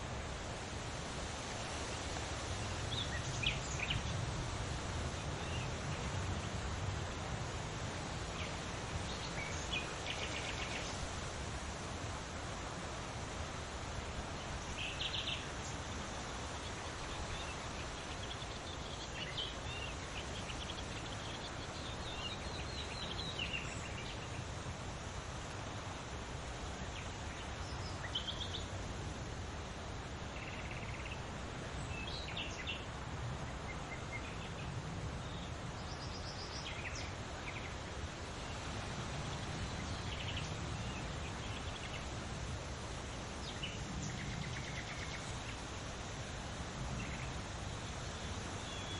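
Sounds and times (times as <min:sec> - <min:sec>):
songbirds chirping: 0:00.0 - 0:48.9
wind through leaves: 0:00.0 - 0:48.9.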